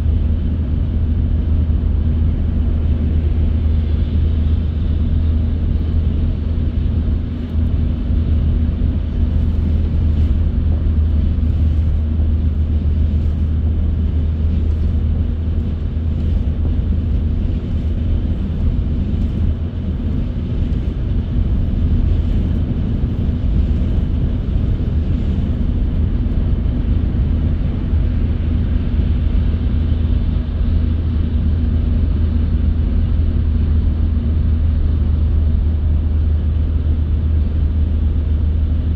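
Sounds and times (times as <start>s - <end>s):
car engine and road noise: 0.0s - 38.9s
steady hum: 0.0s - 38.9s.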